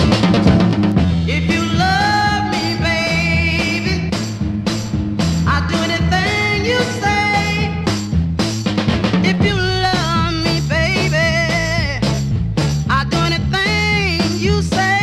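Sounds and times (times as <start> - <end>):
rnb record playing: 0.0 - 15.0.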